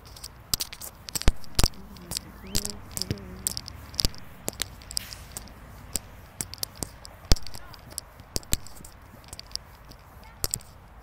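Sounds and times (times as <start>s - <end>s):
sharp clicks and knocks: 0.0s - 11.0s.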